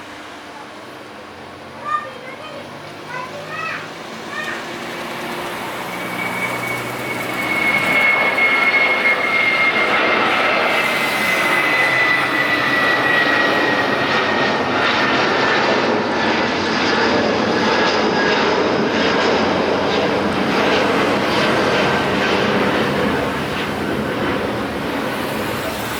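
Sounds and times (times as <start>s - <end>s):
jet airliner taking off: 0.0s - 25.9s.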